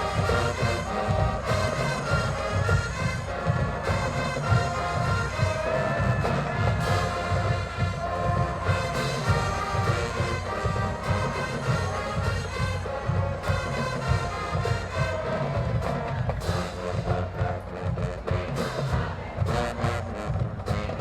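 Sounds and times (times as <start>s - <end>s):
brass sustained chords: 0.0s - 21.0s
pulsing drums: 0.0s - 21.0s.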